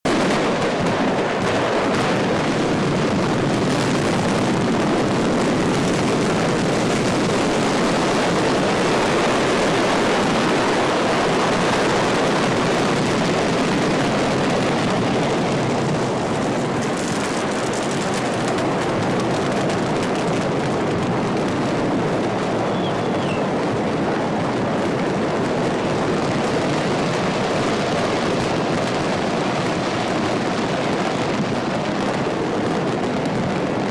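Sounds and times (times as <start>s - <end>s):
fireworks exploding: 0.1s - 33.9s.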